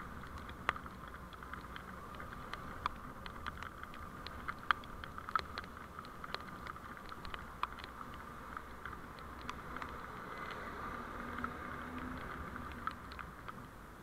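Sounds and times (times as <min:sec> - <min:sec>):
faint ticks: 0:00.0 - 0:13.8
car driving noise: 0:00.0 - 0:14.0.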